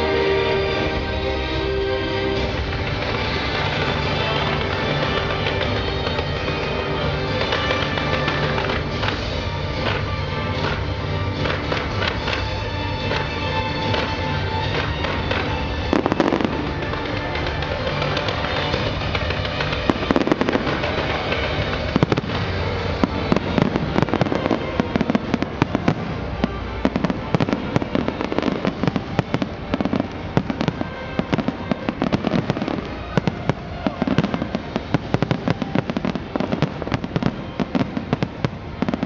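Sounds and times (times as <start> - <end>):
fireworks bangs and crackles: 0.0 - 39.0
sharp firework reports: 2.4 - 39.0.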